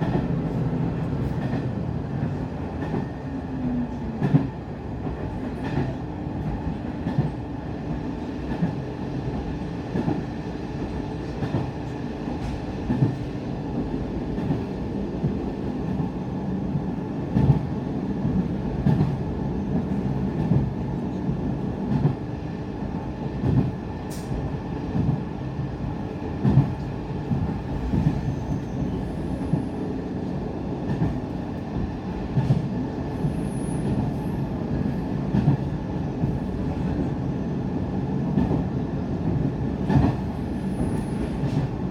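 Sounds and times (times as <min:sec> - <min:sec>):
train engine and wheel drone: 0:00.0 - 0:41.9.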